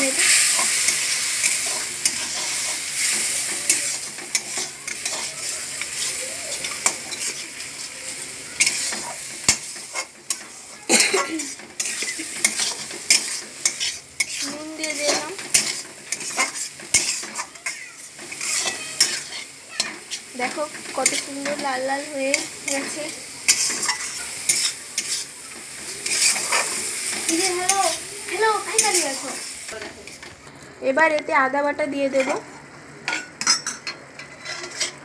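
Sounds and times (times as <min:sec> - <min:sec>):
metal spatula scraping pan: 0:00.0 - 0:30.4, 0:32.1 - 0:32.4, 0:33.1 - 0:35.0
masala sizzling in oil: 0:00.0 - 0:35.0.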